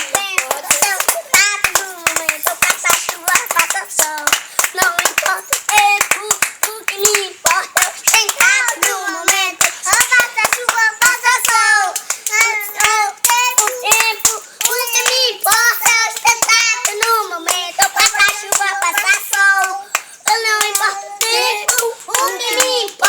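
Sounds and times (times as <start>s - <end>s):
child singing: 0.0s - 23.0s
quick hand claps: 0.0s - 23.0s.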